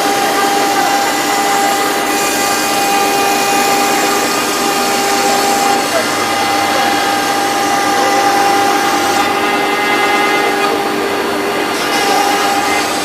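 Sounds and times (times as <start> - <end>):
router cutting wood: 0.0 - 13.0
router spindle whine: 0.0 - 13.0.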